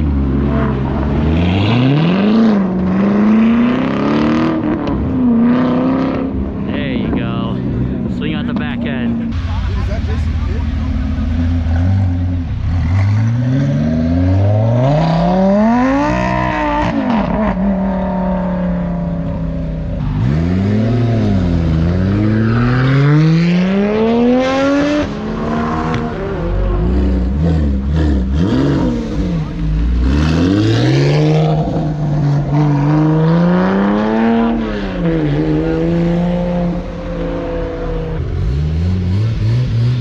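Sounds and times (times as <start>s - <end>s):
car engine revving hard: 0.0s - 40.0s.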